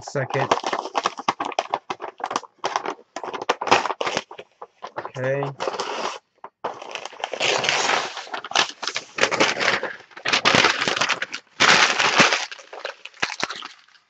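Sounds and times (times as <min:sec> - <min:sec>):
paper wrapping crinkling: 0:00.0 - 0:14.0.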